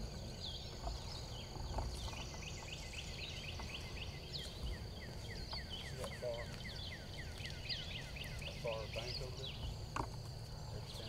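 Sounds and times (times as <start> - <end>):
low wind rumble: 0.0 - 11.0
scattered bird calls: 0.0 - 11.0
songbirds chirping: 0.0 - 11.0.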